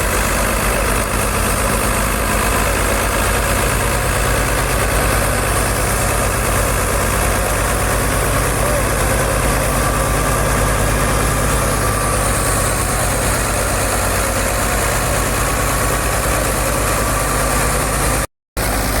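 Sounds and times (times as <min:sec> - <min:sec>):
tractor diesel engine throbbing: 0:00.0 - 0:19.0.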